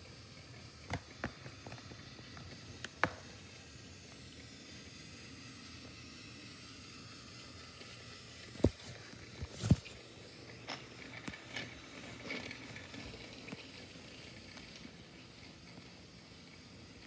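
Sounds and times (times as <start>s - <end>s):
toy train motor hum: 0.0s - 17.0s.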